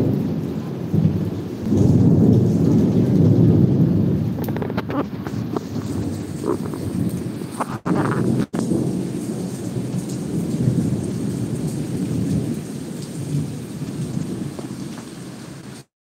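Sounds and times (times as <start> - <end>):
rolling thunder rumble: 0.0 - 15.0
heavy rain: 0.0 - 15.9.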